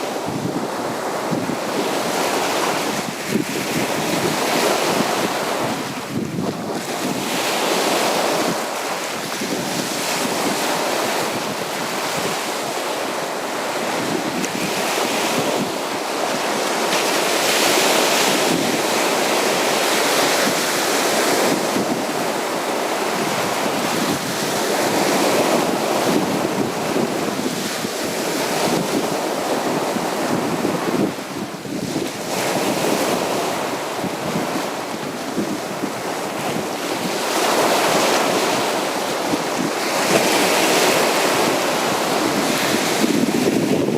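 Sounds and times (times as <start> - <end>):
sea waves breaking on beach: 0.0 - 43.9.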